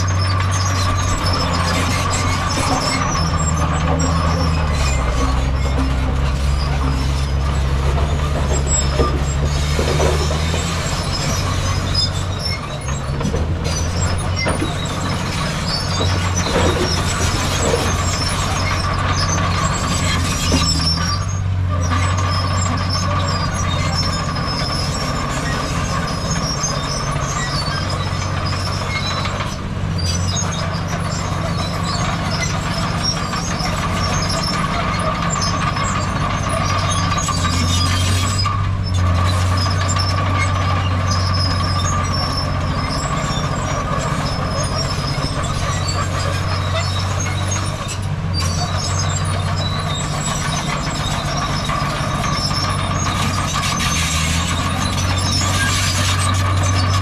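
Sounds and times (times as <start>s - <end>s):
heavy machinery diesel engine drone: 0.0s - 57.0s
high metallic squeaks: 0.0s - 57.0s.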